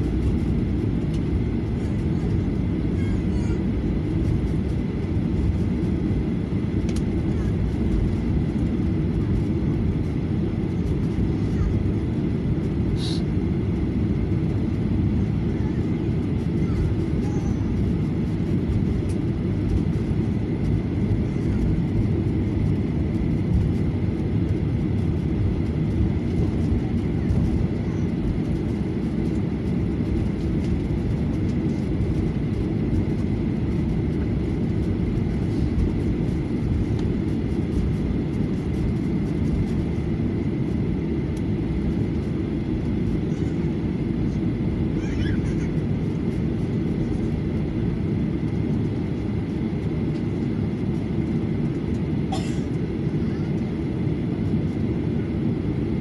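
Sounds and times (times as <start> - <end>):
faint steady whine: 0.0 - 56.0
jet engines taxiing: 0.0 - 56.0.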